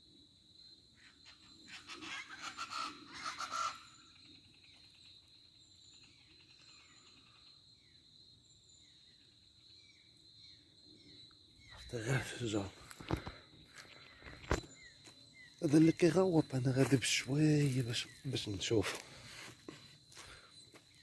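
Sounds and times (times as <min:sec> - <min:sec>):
birds calling: 0:01.0 - 0:21.0.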